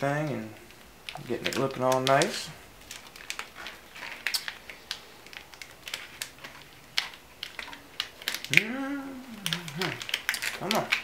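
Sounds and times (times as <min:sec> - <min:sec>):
plastic conduit clicking and crackling: 0:00.0 - 0:11.0.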